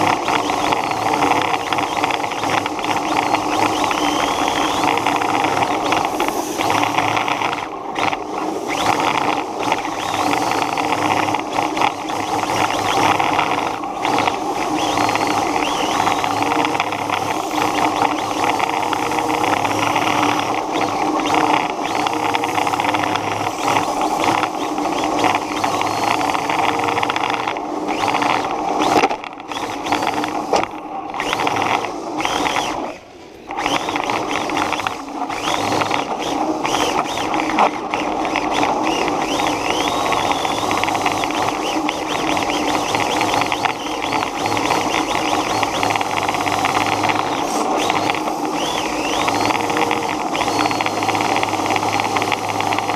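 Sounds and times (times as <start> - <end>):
toy car motor whining: 0.0 - 52.9.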